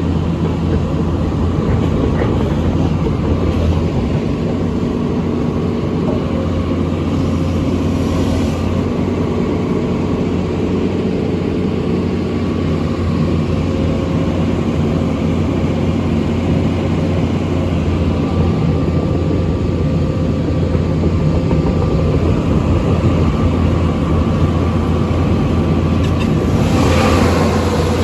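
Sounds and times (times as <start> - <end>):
excavator diesel engine humming: 0.0 - 28.0.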